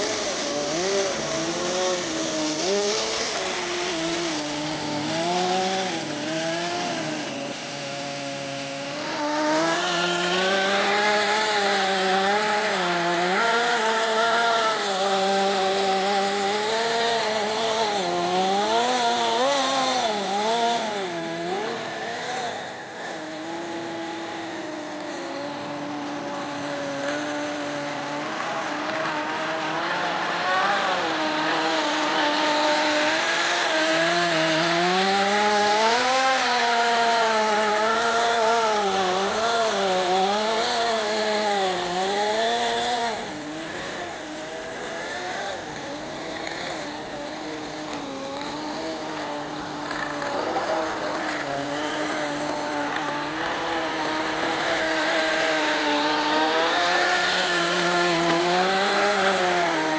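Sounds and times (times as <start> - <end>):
model engine revving: 0.0 - 59.9.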